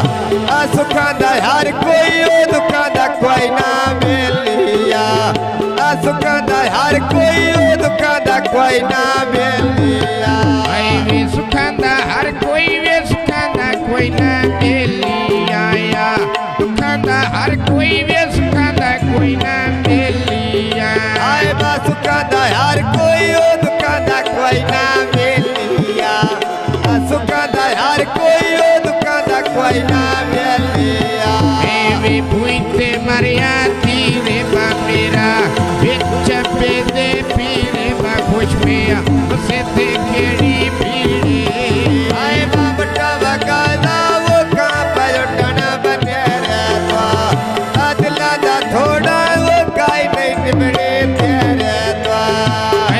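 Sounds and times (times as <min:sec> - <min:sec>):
hand drum beat: 0:00.0 - 0:52.9
man singing folk song: 0:00.0 - 0:52.9.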